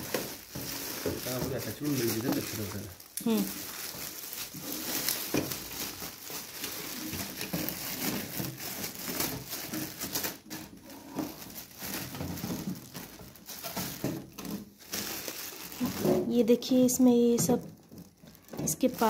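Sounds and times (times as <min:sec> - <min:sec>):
plastic film crinkling: 0:00.0 - 0:19.0.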